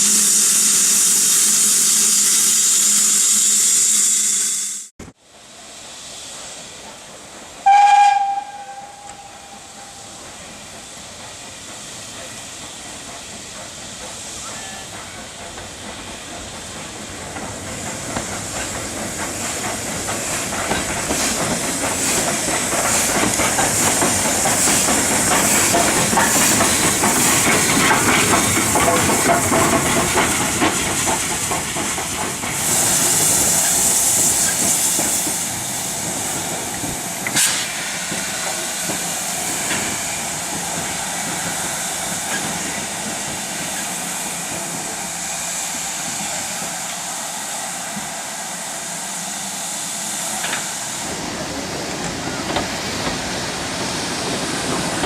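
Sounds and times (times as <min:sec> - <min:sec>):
steam hissing: 0:00.0 - 0:55.0
steam train moving past: 0:00.0 - 0:55.0.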